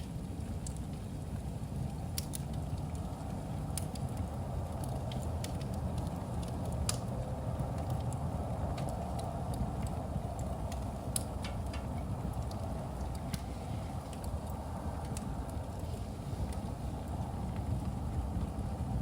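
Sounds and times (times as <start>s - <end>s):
fire crackles and pops: 0.0s - 19.0s
fire low rumble: 0.0s - 19.0s.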